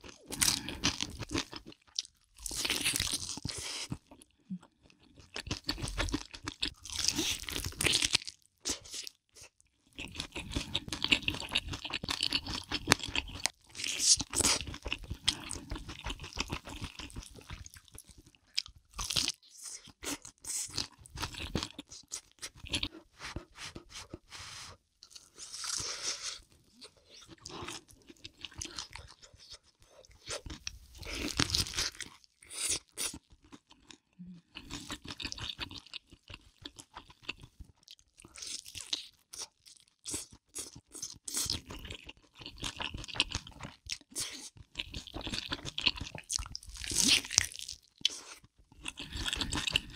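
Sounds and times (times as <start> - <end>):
person chewing crunchy food: 0.0 - 49.9.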